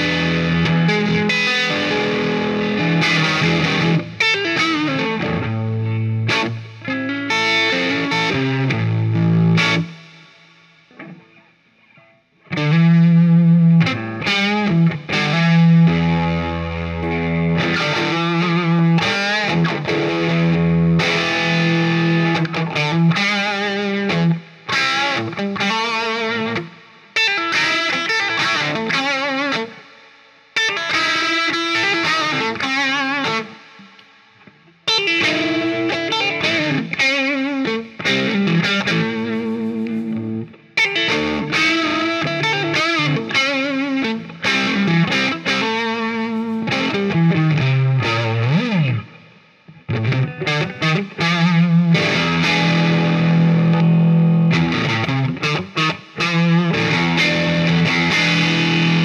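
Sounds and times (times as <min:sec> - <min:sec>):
electric guitar through amplifier: 0:00.0 - 0:59.0.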